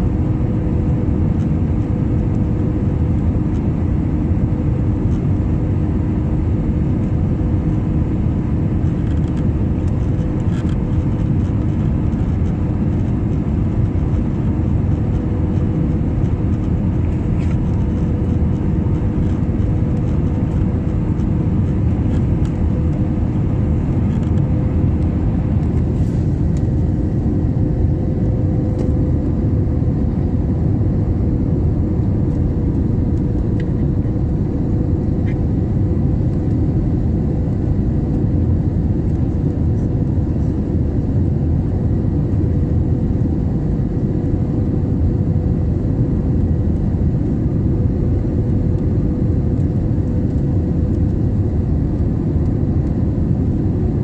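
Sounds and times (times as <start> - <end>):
jet cabin engine drone: 0.0 - 54.0
steady whine: 0.0 - 54.0.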